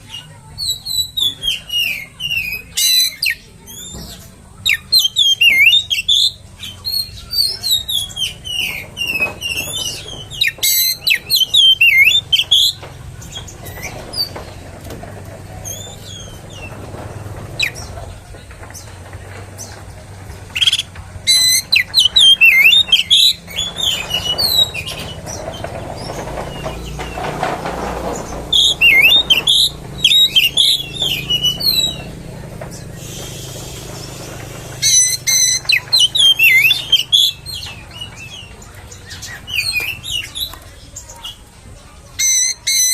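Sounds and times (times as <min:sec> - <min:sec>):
bird singing whistles and chirps: 0:00.1 - 0:14.6, 0:20.5 - 0:27.5, 0:28.3 - 0:41.4, 0:42.1 - 0:42.9.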